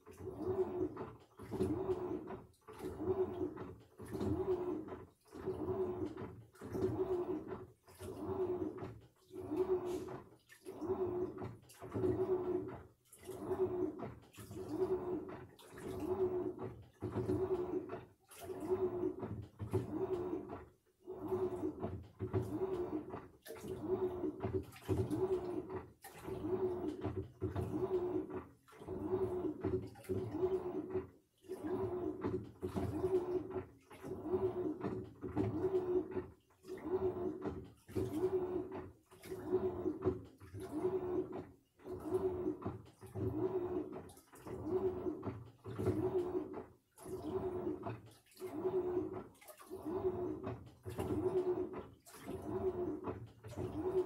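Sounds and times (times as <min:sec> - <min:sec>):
washing machine motor whining: 0:00.0 - 0:54.0
water swishing: 0:00.0 - 0:54.0.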